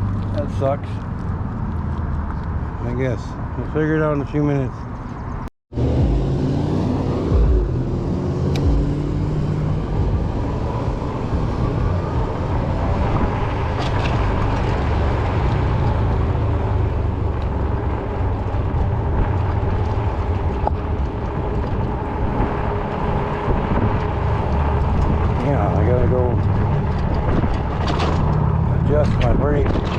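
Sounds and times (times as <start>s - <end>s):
tires rolling: 0.0s - 29.9s
wind noise: 5.0s - 29.9s.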